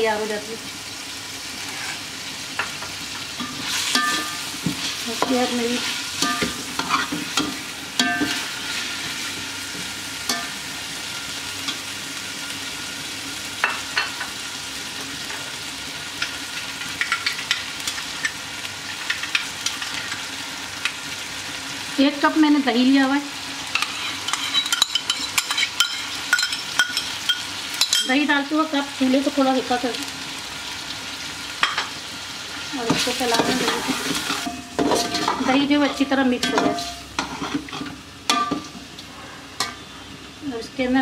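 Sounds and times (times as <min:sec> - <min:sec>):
chicken frying in oil: 0:00.0 - 0:34.5.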